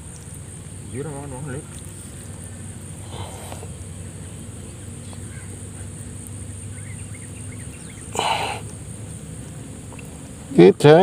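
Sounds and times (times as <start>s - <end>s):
faint bird chirps: 0.0s - 10.1s.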